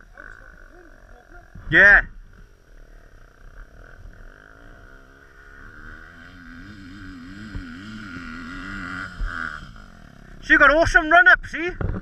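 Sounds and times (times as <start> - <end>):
dirt bike engine revving: 0.0 - 11.3.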